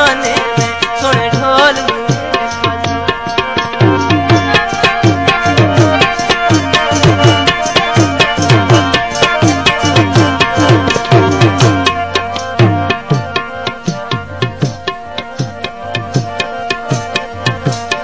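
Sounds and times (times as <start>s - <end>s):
hand drums playing fast rhythm: 0.0s - 18.0s
held melodic tones: 0.0s - 18.0s.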